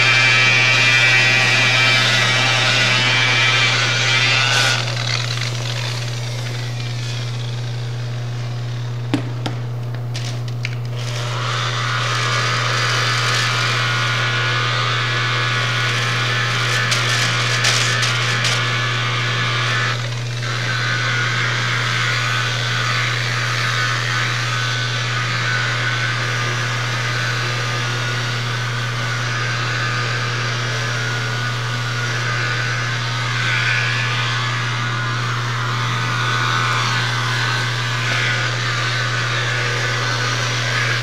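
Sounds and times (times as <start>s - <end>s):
electric polisher whirring: 0.0s - 41.0s.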